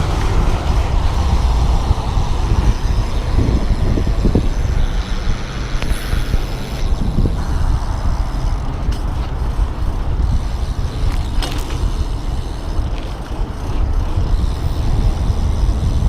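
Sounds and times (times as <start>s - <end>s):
bike clicks and rattles: 0.0s - 16.0s
wind rumble on microphone: 0.0s - 16.0s.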